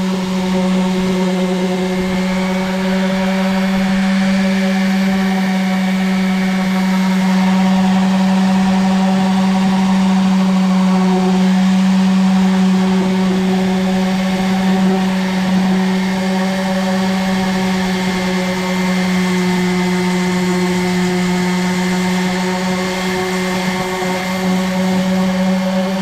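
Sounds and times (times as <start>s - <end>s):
electric sander on wood: 0.0s - 26.0s.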